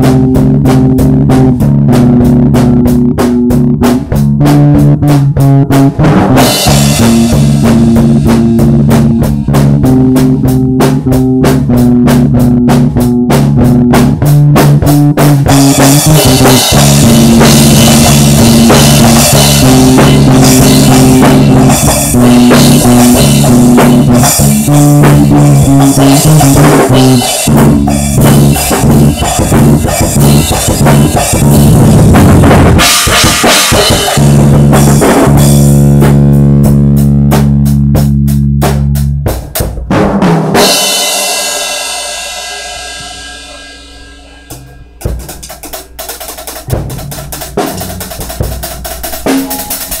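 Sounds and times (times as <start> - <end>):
drum kit playing: 0.0 - 50.0.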